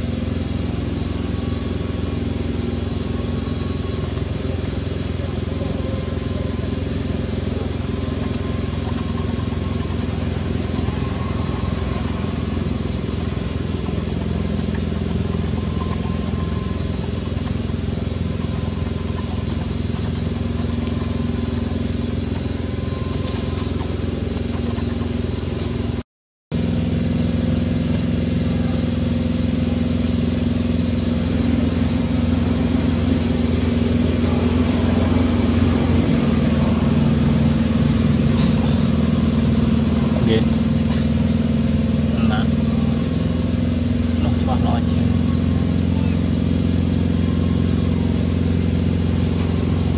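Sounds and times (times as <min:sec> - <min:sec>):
engine hum: 0:00.0 - 0:49.9.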